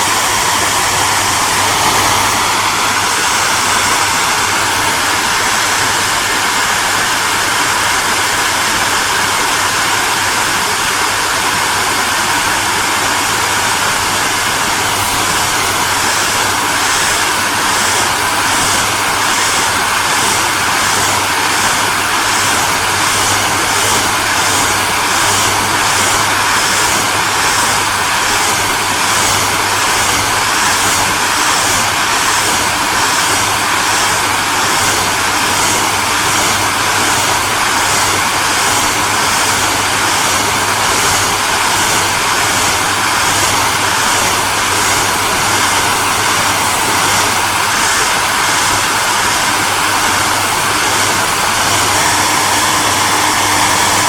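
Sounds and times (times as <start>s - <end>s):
hairdryer running: 0.0s - 54.0s.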